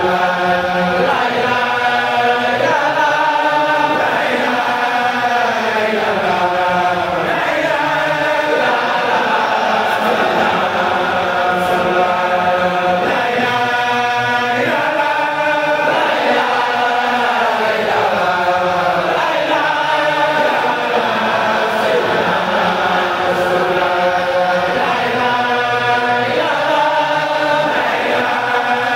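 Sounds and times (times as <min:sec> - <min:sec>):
congregation chanting in unison: 0:00.0 - 0:28.9.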